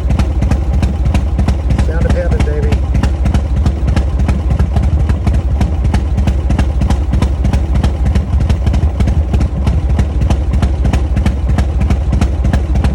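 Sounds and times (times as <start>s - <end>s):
motorcycle engine idling: 0.0s - 12.9s
sharp regular engine ticks: 0.0s - 12.9s.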